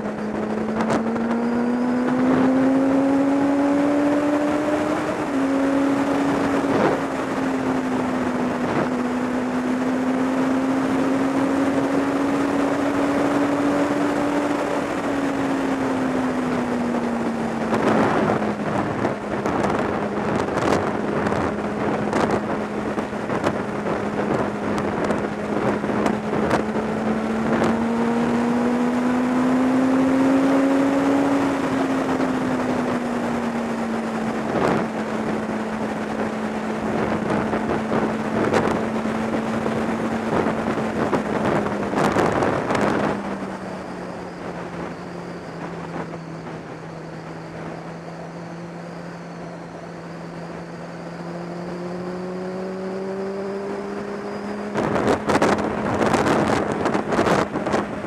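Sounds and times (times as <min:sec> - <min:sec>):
motorcycle engine cruising: 0:00.0 - 0:58.0
wind gusting on microphone: 0:00.0 - 0:58.0.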